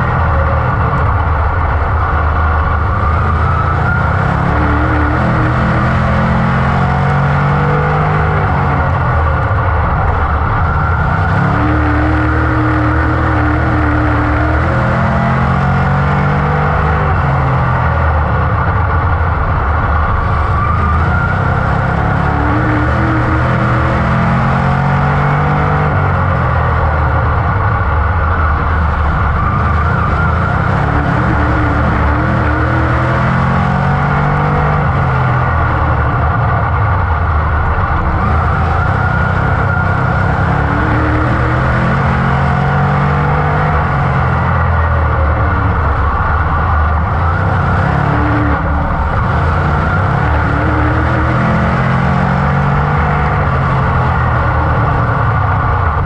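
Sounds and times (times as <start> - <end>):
race car engine revving: 0.0 - 56.0
wind and tyre noise: 0.0 - 56.0.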